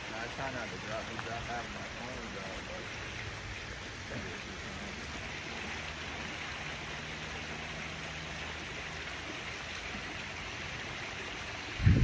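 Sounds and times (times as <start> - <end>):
creek running over rocks: 0.0 - 12.0.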